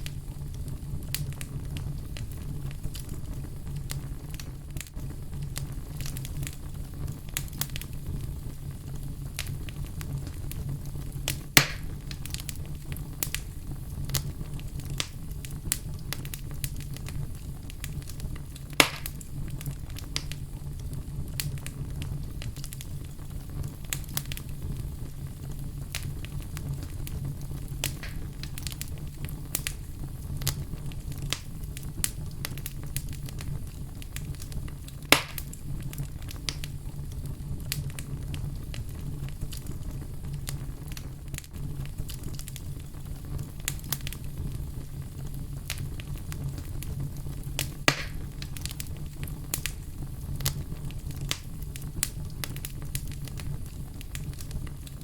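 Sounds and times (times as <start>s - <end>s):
fire crackling in a fireplace: 0.0s - 55.0s
fire popping loudly: 0.0s - 55.0s.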